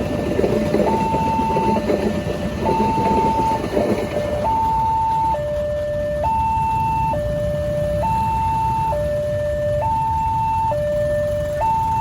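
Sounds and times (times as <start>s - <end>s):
two-tone electronic alarm: 0.7s - 12.0s.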